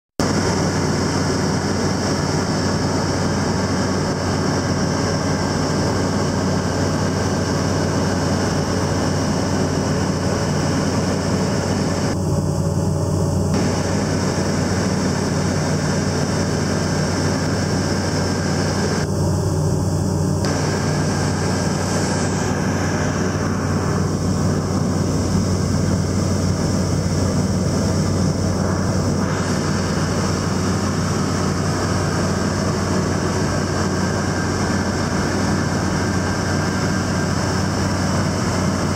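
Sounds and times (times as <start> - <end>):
propeller aircraft droning: 0.2 - 38.9.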